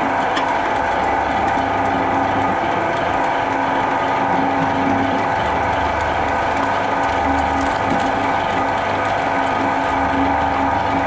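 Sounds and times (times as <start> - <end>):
shredder mechanical whine: 0.0 - 11.0.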